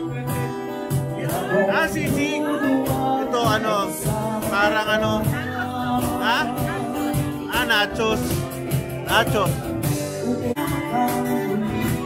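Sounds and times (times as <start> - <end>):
person singing: 0.0 - 8.4, 9.3 - 12.0
live band playing: 0.0 - 12.0.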